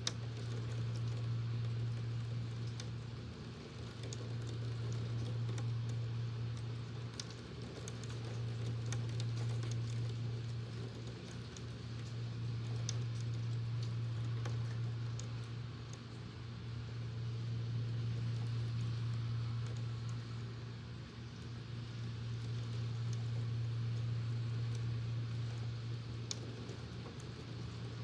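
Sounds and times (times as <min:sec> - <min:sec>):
electric fan humming: 0:00.0 - 0:28.0
rain drops ticking: 0:00.0 - 0:28.0.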